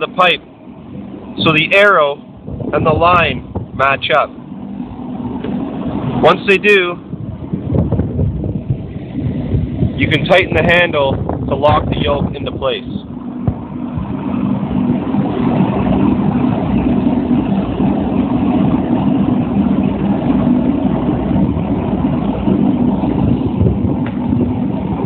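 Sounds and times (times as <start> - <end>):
machine drone with low hum: 0.0 - 25.0.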